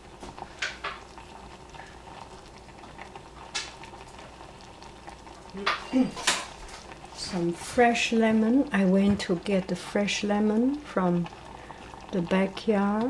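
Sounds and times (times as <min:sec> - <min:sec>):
pot simmering with bubbling hiss: 0:00.0 - 0:13.0.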